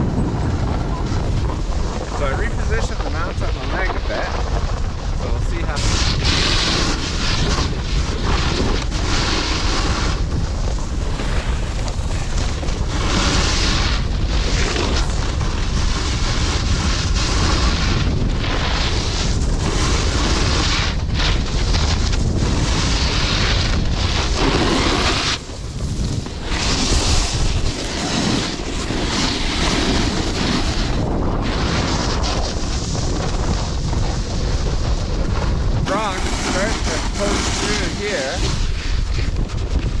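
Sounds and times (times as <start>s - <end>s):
snowboard scraping on snow: 0.0s - 40.0s
wind buffeting microphone: 0.0s - 40.0s.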